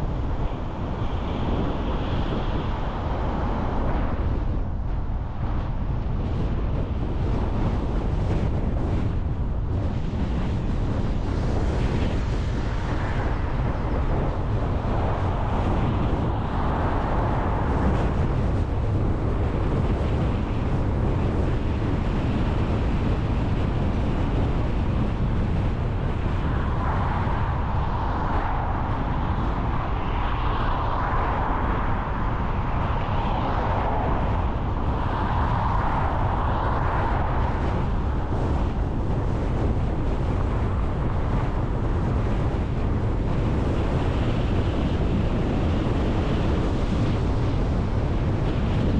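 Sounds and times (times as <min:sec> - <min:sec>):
car road and wind noise: 0:00.0 - 0:48.9.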